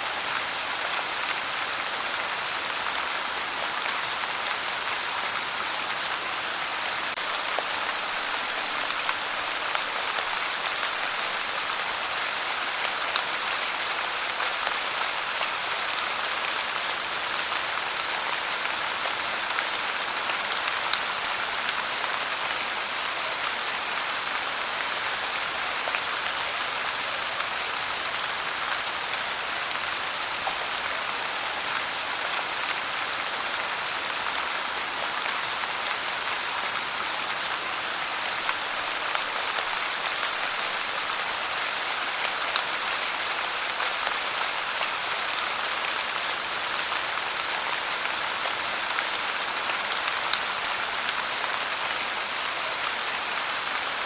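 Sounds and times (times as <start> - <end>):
rain pouring on hard surface: 0.0 - 54.0.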